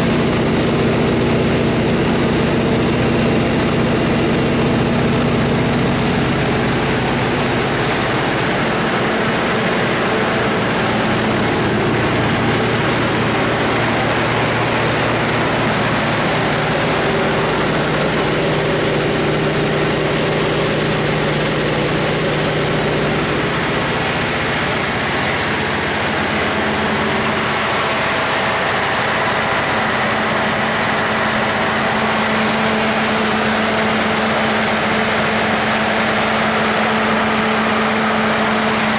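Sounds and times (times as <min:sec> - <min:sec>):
diesel generator drone: 0:00.0 - 0:38.9.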